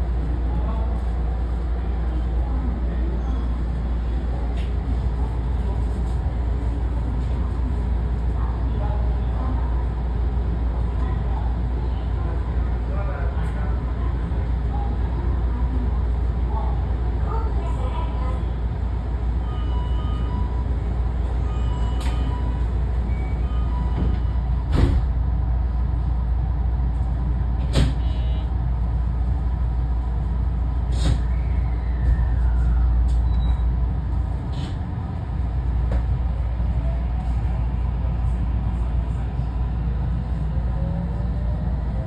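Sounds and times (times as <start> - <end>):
train low hum: 0.0 - 42.0.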